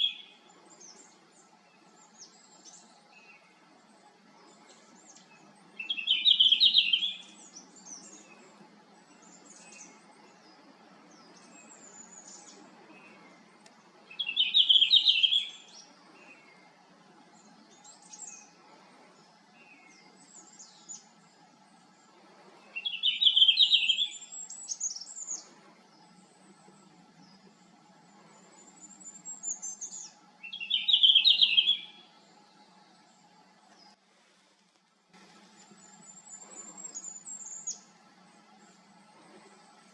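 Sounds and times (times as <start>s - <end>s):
bird warbling song: 0.0s - 21.9s, 22.5s - 27.5s, 28.2s - 34.0s, 35.4s - 39.9s.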